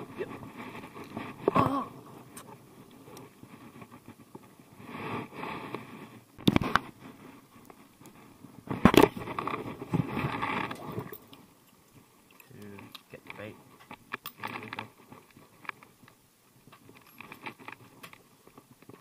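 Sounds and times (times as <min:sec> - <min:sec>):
rustling and scraping handling noise: 0:00.0 - 0:19.0.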